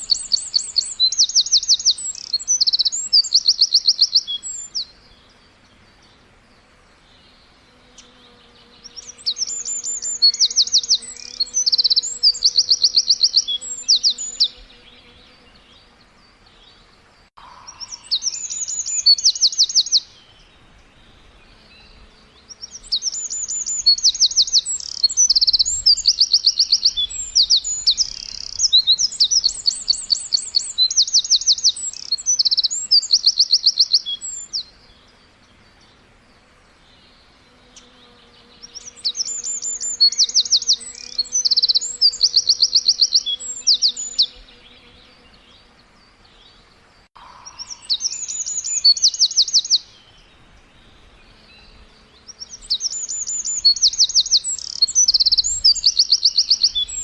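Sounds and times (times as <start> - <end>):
songbird trilled chirps: 0.0 - 36.0, 36.8 - 57.0.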